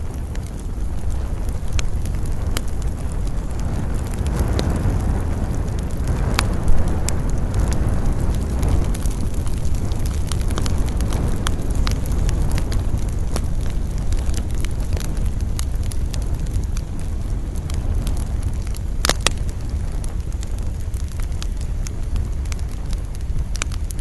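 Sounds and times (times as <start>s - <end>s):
campfire crackling: 0.0s - 24.0s
loud fire snap: 0.0s - 24.0s
wind rumble: 0.0s - 24.0s.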